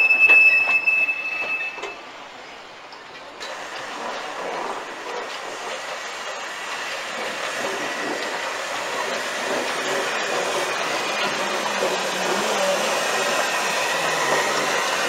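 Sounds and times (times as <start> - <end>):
steam hissing: 0.0 - 15.0
train rail running noise: 0.0 - 15.0.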